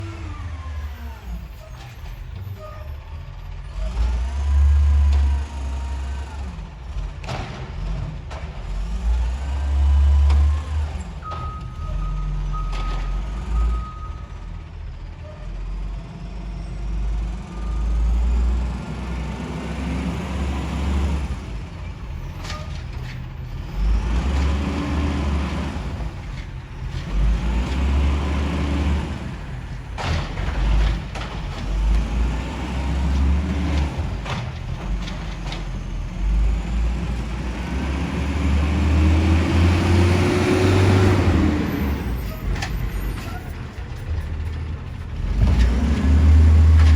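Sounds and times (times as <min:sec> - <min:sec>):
garbage truck diesel engine: 0:00.0 - 0:46.9.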